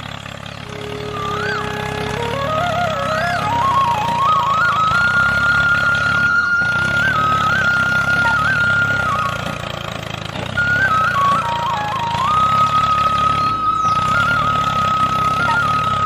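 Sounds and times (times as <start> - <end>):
low engine-like rumble: 0.0 - 16.0
toy tractor motor whining: 0.0 - 16.0.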